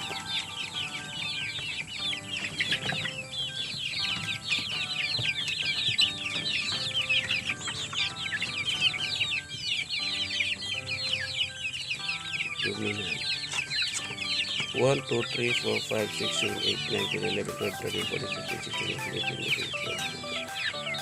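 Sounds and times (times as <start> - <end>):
chicks peeping: 0.0 - 21.0
quiet background music: 0.0 - 21.0.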